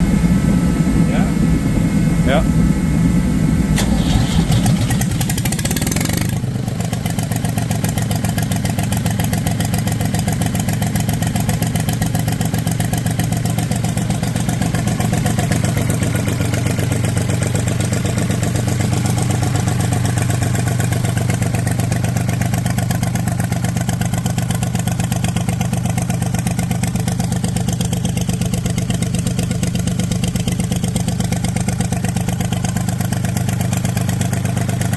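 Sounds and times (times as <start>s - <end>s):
diesel tractor engine idling: 0.0s - 34.9s.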